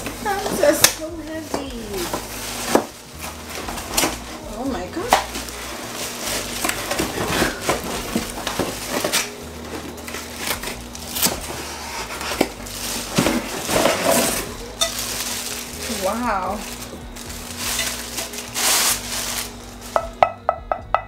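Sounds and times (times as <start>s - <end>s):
plastic wrapping crinkling: 0.0s - 20.2s
cardboard box rustling: 0.1s - 19.9s.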